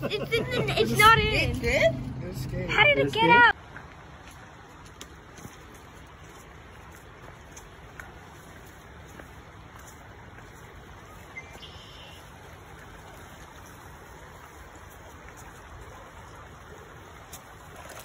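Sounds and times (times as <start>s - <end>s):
creek running over stones: 0.2s - 18.0s.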